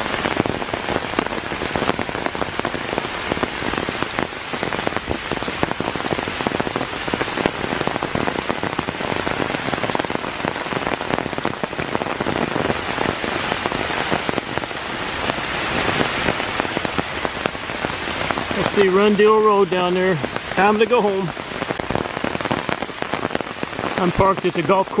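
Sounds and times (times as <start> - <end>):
raindrop hits close by: 0.0 - 25.0
steady rain hiss: 0.0 - 25.0.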